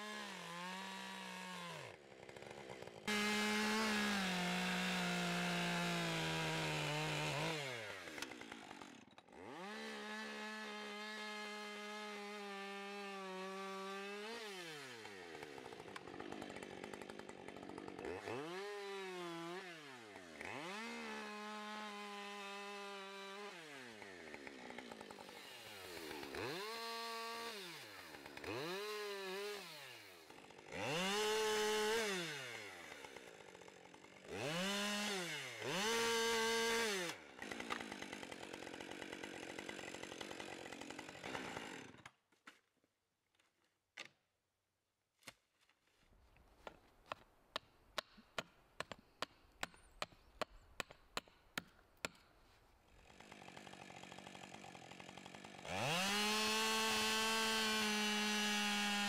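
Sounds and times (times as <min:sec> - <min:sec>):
chainsaw cutting log: 0:00.0 - 0:42.7, 0:46.6 - 0:59.0.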